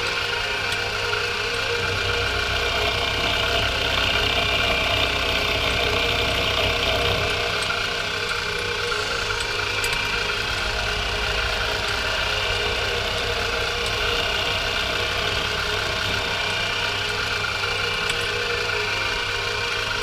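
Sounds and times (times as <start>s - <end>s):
milling machine running: 0.0s - 20.0s.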